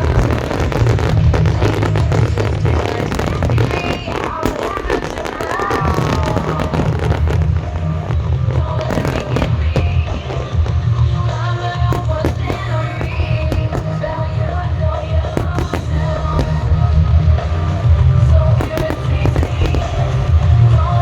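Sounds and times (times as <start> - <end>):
fireworks bangs and crackles: 0.0 - 21.0
loud music with heavy bass: 0.0 - 21.0.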